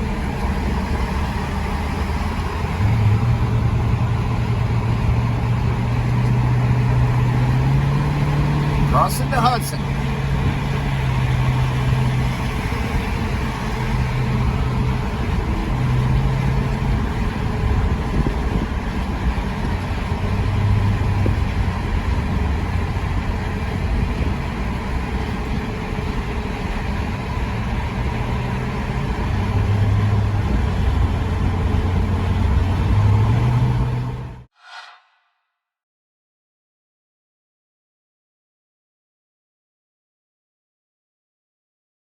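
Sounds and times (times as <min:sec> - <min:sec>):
vehicle engine and road drone: 0:00.0 - 0:35.3.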